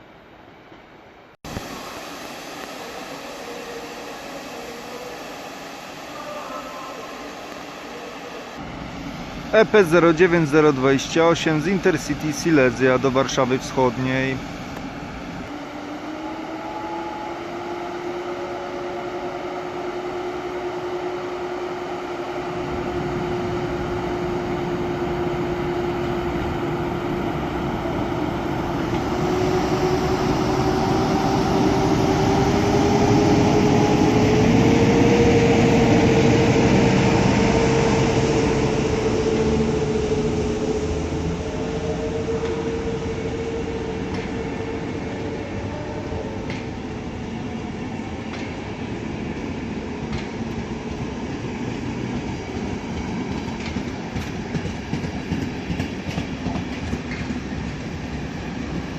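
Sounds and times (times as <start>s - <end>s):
electric locomotive whine: 0.0s - 58.9s
train rail noise: 0.0s - 58.9s.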